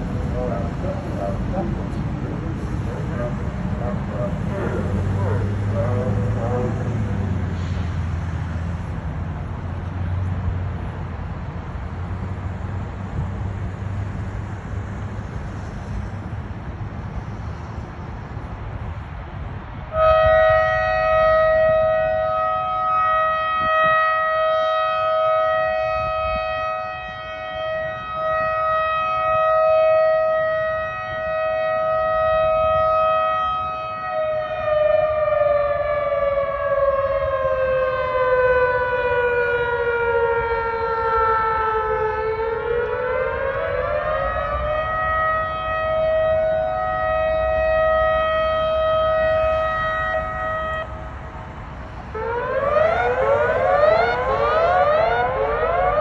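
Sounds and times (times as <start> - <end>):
outdoor warning siren: 0.0 - 56.0.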